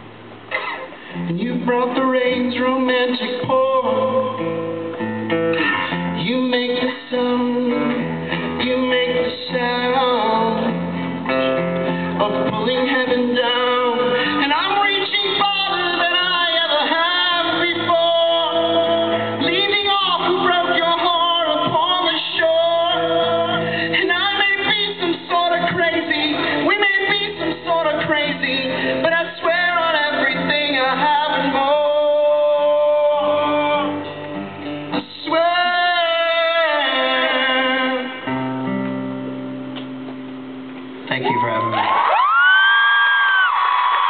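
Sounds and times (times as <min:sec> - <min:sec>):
guitar playing: 0:02.3 - 0:41.8.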